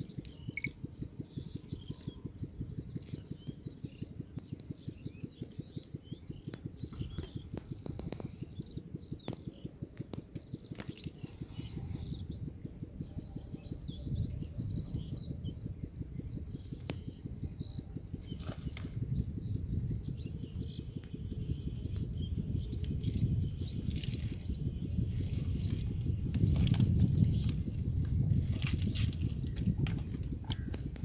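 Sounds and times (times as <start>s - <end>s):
pulsing low rumble: 0.0s - 31.0s
small birds chirping: 0.0s - 31.0s.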